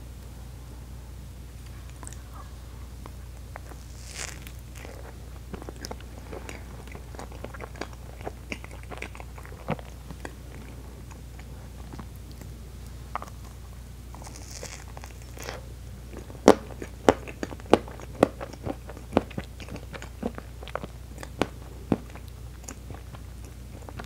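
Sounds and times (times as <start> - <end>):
low hum: 0.0 - 24.0
chewing cake with mouth clicks: 1.6 - 24.0.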